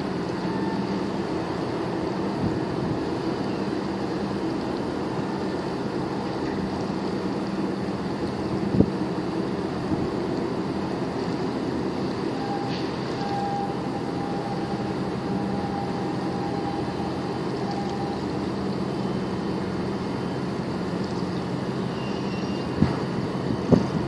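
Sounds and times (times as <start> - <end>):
boat engine drone: 0.0 - 24.0
water noise: 0.0 - 24.0
wind: 0.0 - 24.0.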